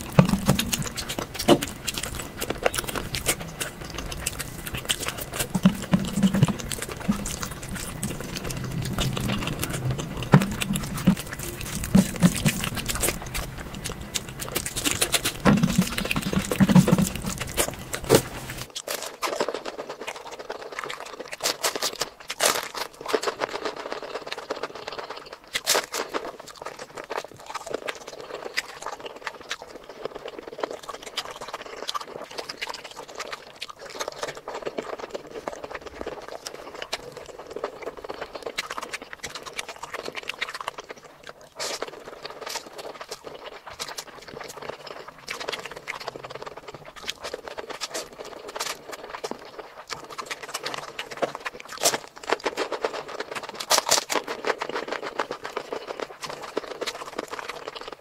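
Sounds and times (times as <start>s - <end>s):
lip smacking: 0.0s - 58.0s
wet chewing: 0.0s - 58.0s.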